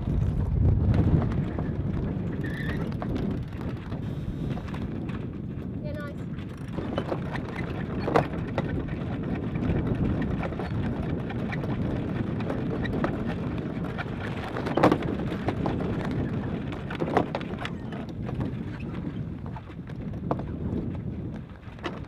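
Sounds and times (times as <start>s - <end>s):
rushing wind and water: 0.0s - 22.0s
knocks and clicks from rigging: 0.9s - 5.3s, 6.3s - 22.0s.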